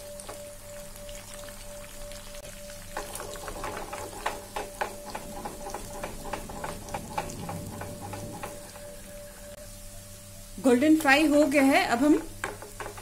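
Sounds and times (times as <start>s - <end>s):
meatballs sizzling in hot oil: 0.0s - 13.0s.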